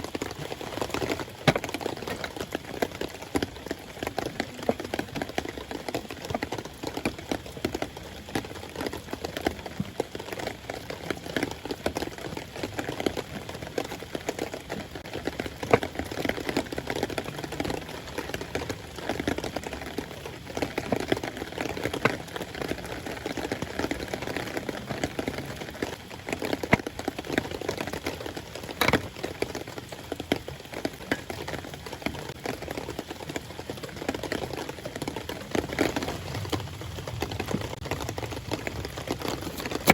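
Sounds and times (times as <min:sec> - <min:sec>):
raindrops hitting a surface: 0:00.0 - 0:39.9
steady rain: 0:00.0 - 0:39.9.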